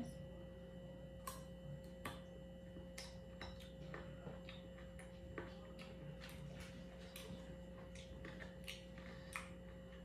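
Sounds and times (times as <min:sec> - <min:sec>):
steady low hum: 0:00.0 - 0:10.0
chewing crisp fruit: 0:01.2 - 0:10.0.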